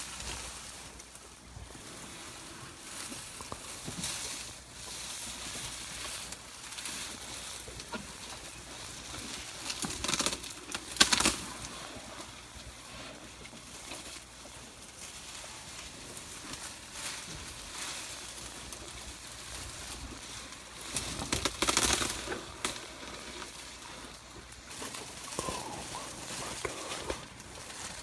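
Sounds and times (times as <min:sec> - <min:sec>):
branches and leaves crackling: 0:00.0 - 0:28.0.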